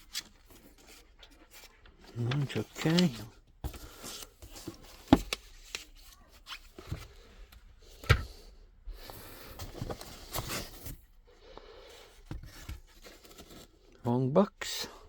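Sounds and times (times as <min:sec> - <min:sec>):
cardboard rustling and scraping: 0:00.0 - 0:11.2, 0:12.1 - 0:13.9.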